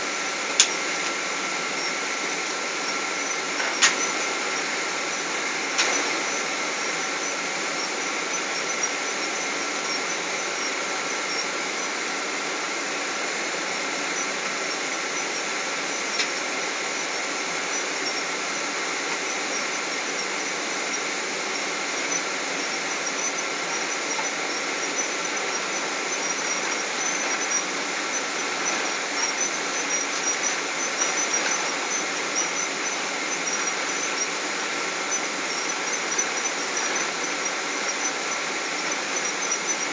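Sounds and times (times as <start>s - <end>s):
engine and air conditioning hum: 0.0s - 39.9s
high whine: 0.0s - 39.9s.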